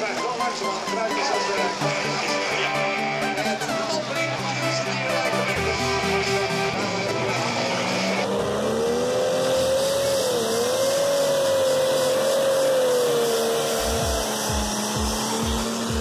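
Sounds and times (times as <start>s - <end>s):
background music: 0.0s - 16.0s
tractor diesel engine high revs: 1.7s - 16.0s.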